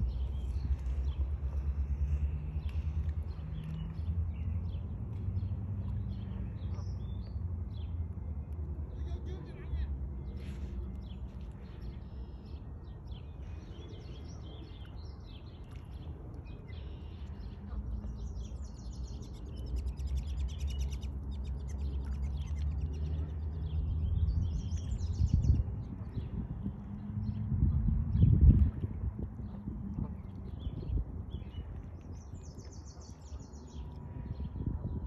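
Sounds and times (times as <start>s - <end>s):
small birds chirping and trilling: 0.0s - 35.0s
steady low rumble: 0.0s - 35.0s.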